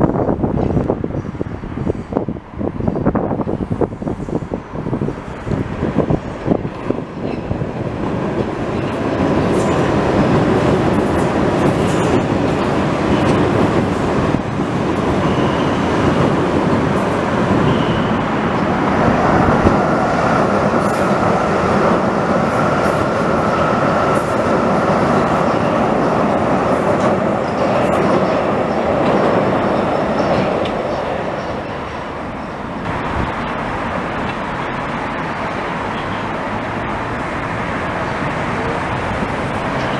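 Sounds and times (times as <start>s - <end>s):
metro train rail rumble: 0.0s - 39.9s.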